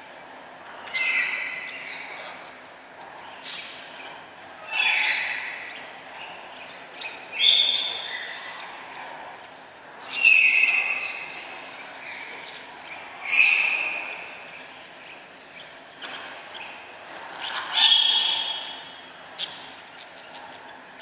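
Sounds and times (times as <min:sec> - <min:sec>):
parrots calling: 0:00.6 - 0:02.6, 0:03.2 - 0:21.0.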